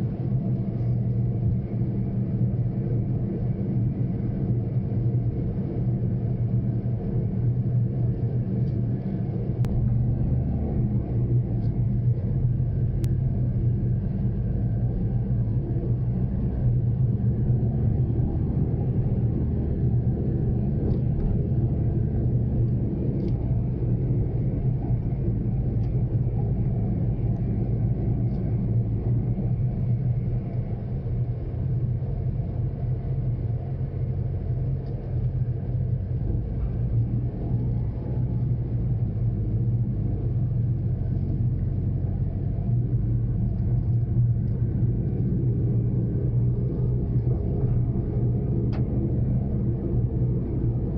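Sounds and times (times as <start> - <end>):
car engine and road drone: 0.0 - 50.9.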